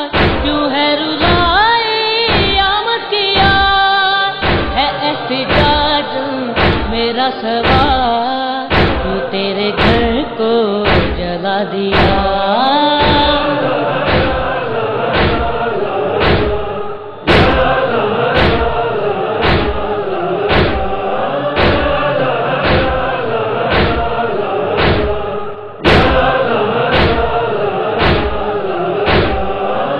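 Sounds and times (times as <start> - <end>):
heavy rhythmic thumps: 0.0 - 29.9
mourners chanting: 0.0 - 29.9.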